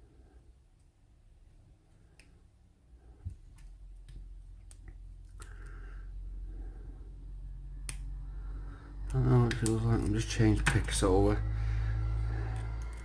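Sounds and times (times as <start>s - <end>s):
low hum: 2.0s - 13.0s.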